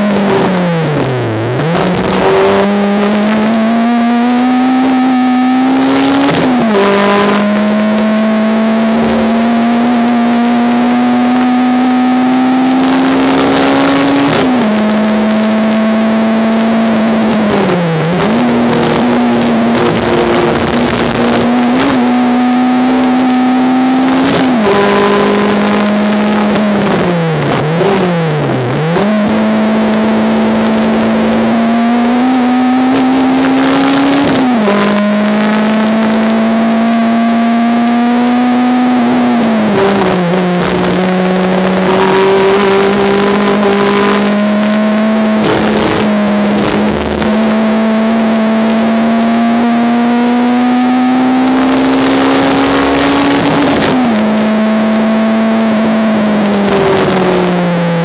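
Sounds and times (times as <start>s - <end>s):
race car engine under power: 0.0s - 58.0s.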